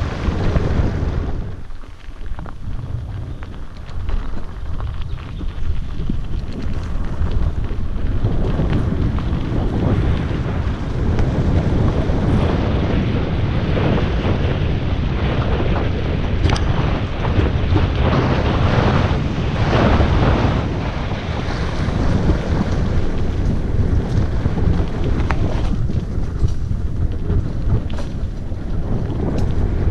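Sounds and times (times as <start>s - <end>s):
tyres rumbling on dirt: 0.0s - 29.9s
wind buffeting microphone: 0.0s - 29.9s.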